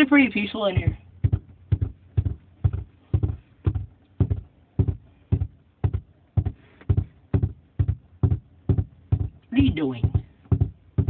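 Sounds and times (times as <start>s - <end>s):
dull thumps: 0.6s - 11.0s.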